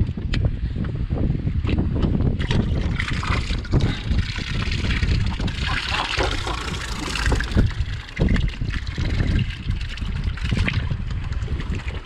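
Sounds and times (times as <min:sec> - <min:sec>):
wind rumbling on microphone: 0:00.0 - 0:12.0
waves slapping against a boat hull: 0:01.6 - 0:12.0.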